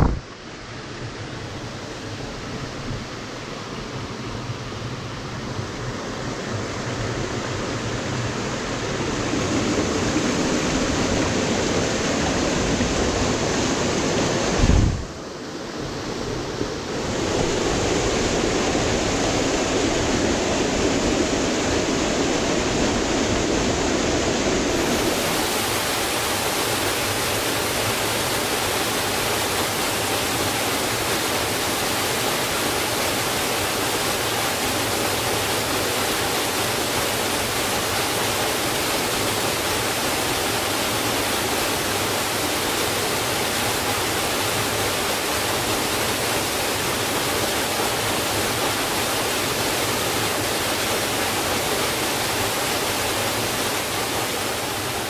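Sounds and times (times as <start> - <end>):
waterfall rushing: 6.4 - 55.0.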